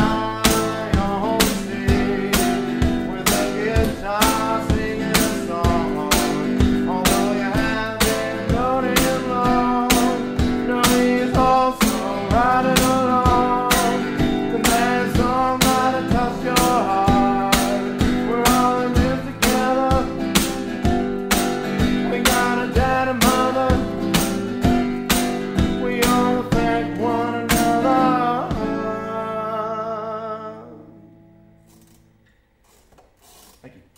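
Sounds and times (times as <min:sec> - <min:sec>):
man singing: 0:00.0 - 0:20.9, 0:21.8 - 0:31.0
acoustic guitar strumming: 0:00.0 - 0:33.5.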